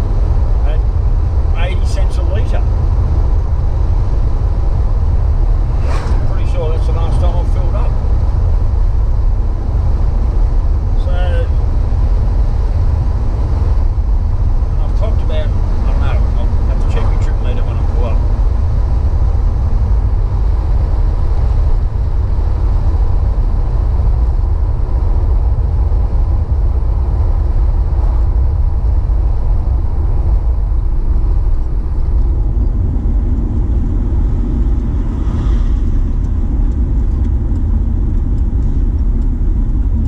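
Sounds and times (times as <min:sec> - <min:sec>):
car engine rumble: 0:00.0 - 0:40.0.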